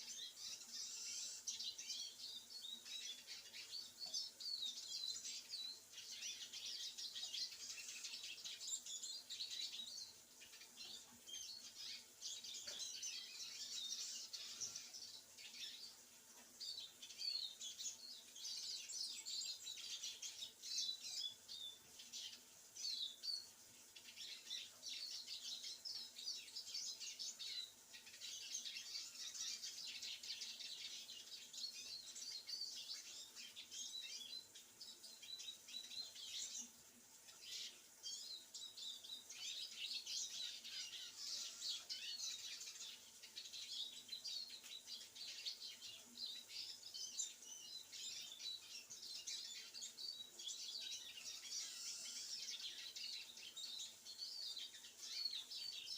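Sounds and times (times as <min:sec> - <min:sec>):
songbirds twittering and chirping: 0:00.0 - 0:55.9.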